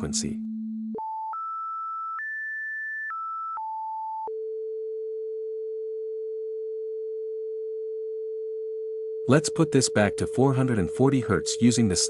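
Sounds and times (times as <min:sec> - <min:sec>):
synthesized sine-wave tone: 0:00.0 - 0:12.0.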